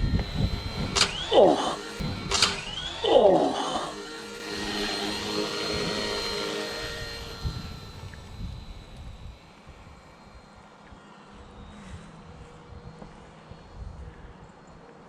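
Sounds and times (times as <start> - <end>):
toy helicopter rotor whirring: 0.0 - 14.6.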